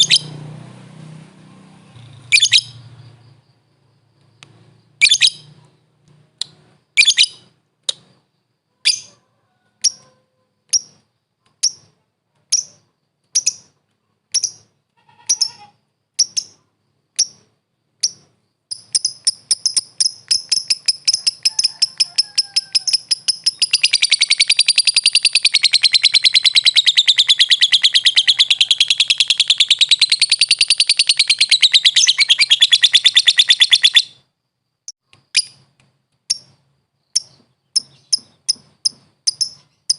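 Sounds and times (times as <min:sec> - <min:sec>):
lovebird chirping and trilling: 0:00.0 - 0:00.4, 0:01.9 - 0:03.4, 0:04.7 - 0:09.2, 0:09.8 - 0:34.3, 0:35.2 - 0:35.7, 0:36.3 - 0:39.9.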